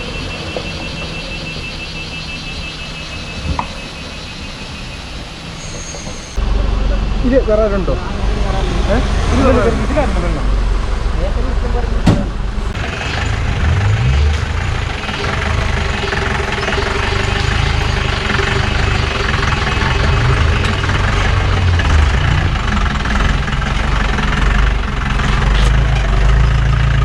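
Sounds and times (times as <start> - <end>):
engine rumbling at low revs: 0.0 - 27.0.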